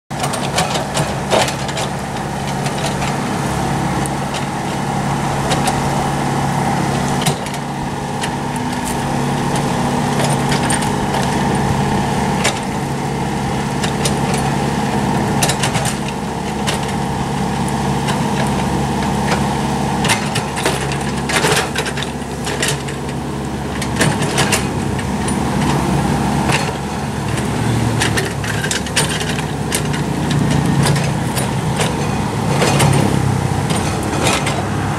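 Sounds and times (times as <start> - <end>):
diesel excavator engine running: 0.1 - 34.9.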